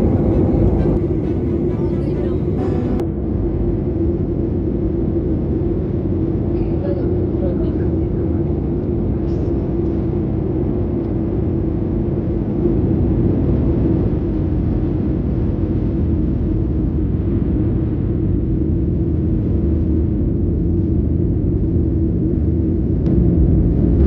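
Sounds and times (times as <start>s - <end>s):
constant low hum: 0.0s - 24.0s
jet engine drone in cabin: 0.0s - 24.0s.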